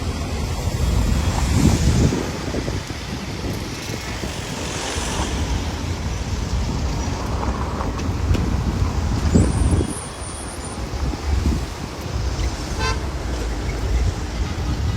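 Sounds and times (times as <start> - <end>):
engine and road rumble: 0.0 - 14.9.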